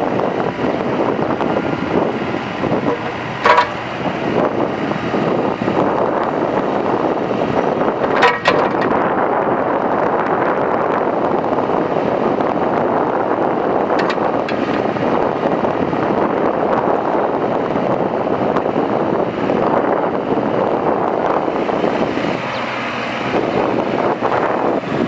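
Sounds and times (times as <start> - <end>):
excavator diesel engine: 0.0 - 25.0
wind buffeting microphone: 0.0 - 25.0.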